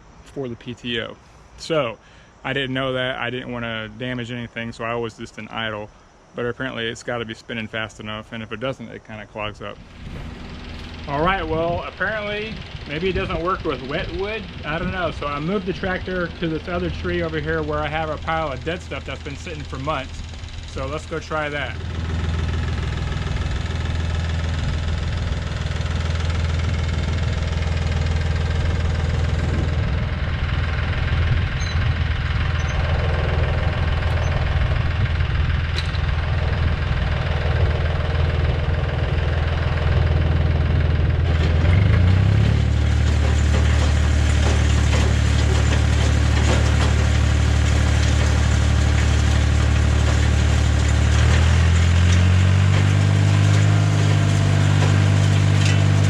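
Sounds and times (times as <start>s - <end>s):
tractor engine running: 9.6s - 56.0s.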